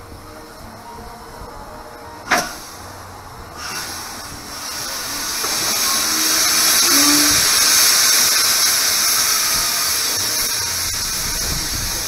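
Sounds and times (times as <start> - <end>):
steam locomotive hissing: 2.2 - 12.0.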